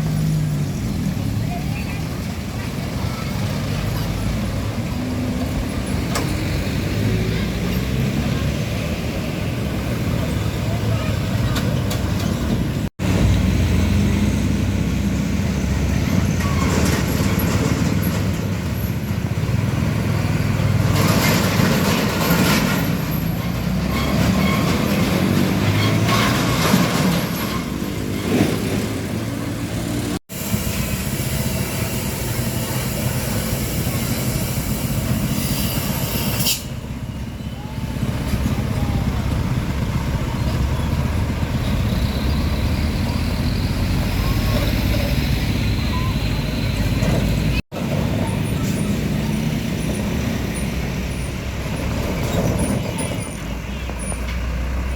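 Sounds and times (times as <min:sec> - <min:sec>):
heavy trucks passing: 0:00.0 - 0:54.9.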